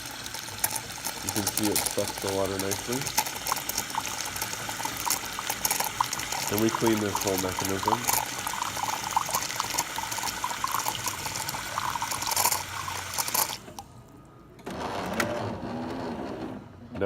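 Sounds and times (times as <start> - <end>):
espresso machine frother hissing: 0.0 - 13.8.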